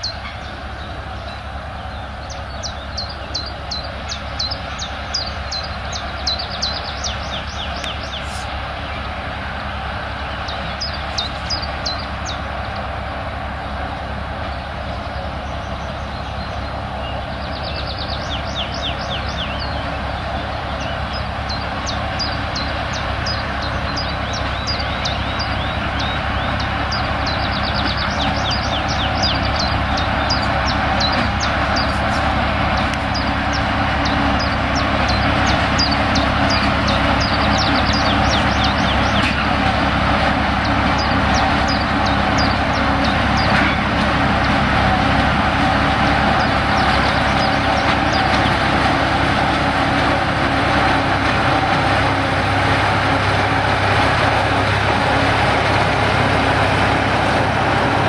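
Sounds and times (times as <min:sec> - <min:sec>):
birds chirping: 0:00.0 - 0:58.0
diesel locomotive engine running: 0:00.0 - 0:58.0.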